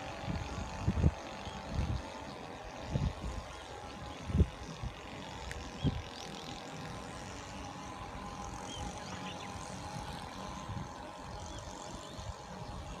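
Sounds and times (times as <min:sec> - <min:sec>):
motor drone: 0:00.0 - 0:13.0.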